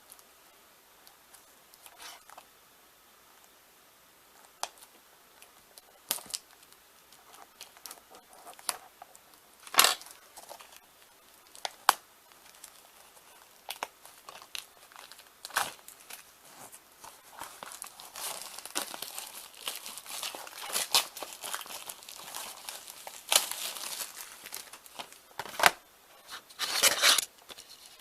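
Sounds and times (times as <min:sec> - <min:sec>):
plastic wrap crinkling and tearing: 0:04.5 - 0:28.0.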